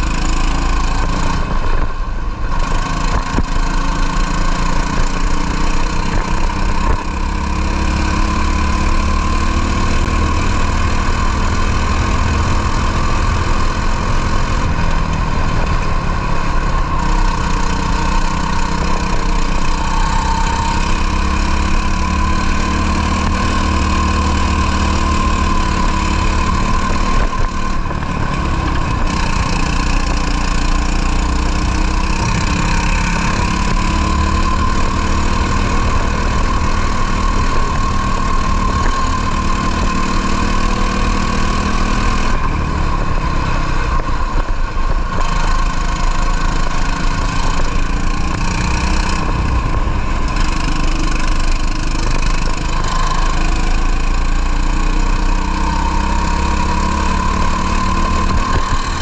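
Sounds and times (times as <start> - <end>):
kart engine running: 0.0 - 59.0.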